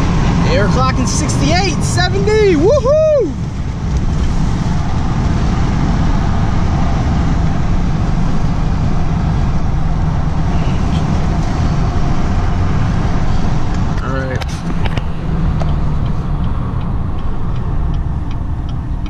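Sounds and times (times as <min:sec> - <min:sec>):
pickup truck cab road rumble: 0:00.0 - 0:19.0.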